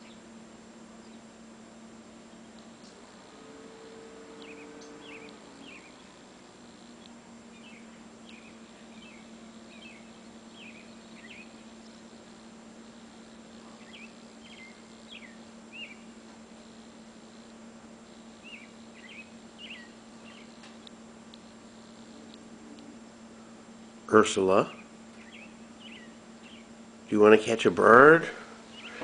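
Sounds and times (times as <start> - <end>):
small birds chirping: 0.0 - 16.2, 18.1 - 23.0, 24.6 - 26.8, 28.6 - 29.0
steady low hum: 0.0 - 29.0.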